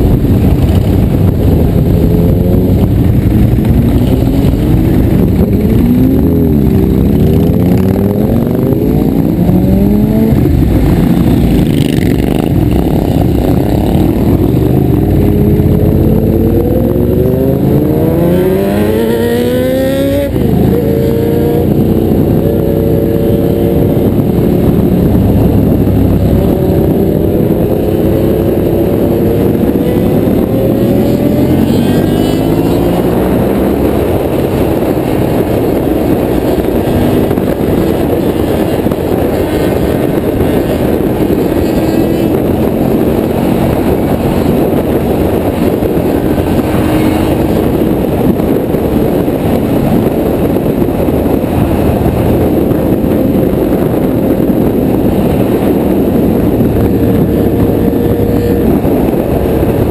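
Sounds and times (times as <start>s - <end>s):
motorcycle engines accelerating: 0.0s - 59.9s.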